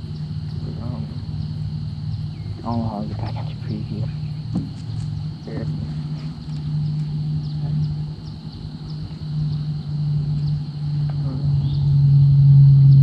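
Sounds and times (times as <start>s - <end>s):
high chirping chorus: 0.0s - 13.0s
low motor-like hum: 0.0s - 13.0s.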